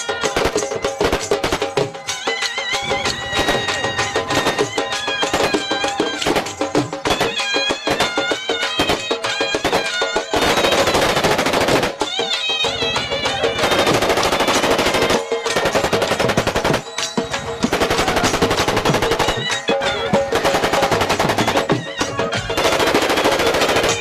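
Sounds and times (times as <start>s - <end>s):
rapid automatic gunfire: 0.4s - 1.9s, 3.4s - 12.1s, 13.5s - 17.0s, 17.7s - 24.0s.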